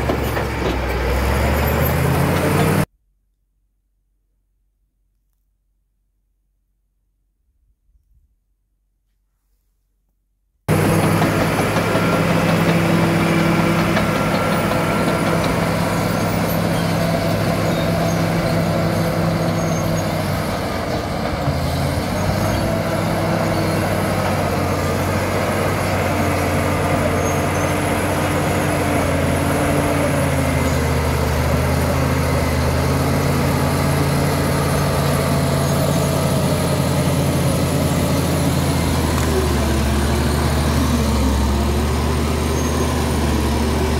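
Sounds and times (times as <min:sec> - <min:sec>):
bulldozer diesel engine running: 0:00.0 - 0:02.9, 0:10.7 - 0:43.9.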